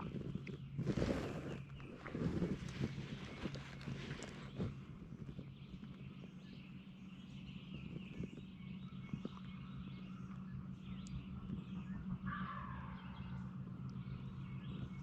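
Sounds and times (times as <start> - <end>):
faint songbirds calling: 0.0 - 15.0
steady low hum: 0.0 - 15.0.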